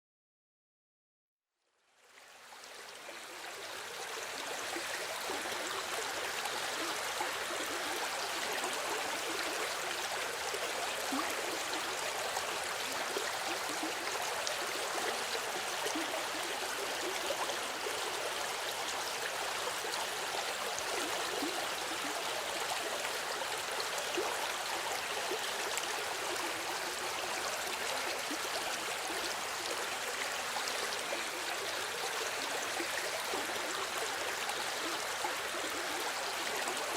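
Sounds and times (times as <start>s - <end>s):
river water babbling over stones: 2.3s - 36.9s.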